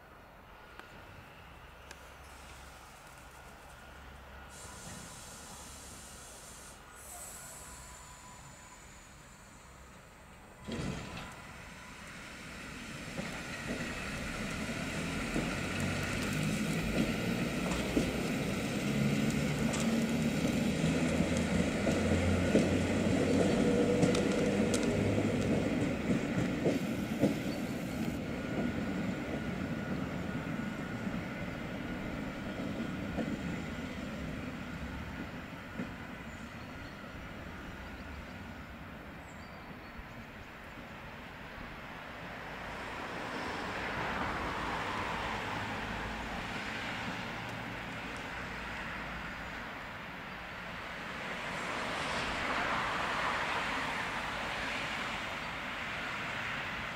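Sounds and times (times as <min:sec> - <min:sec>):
electric train rumble and hum: 0:00.0 - 0:56.9.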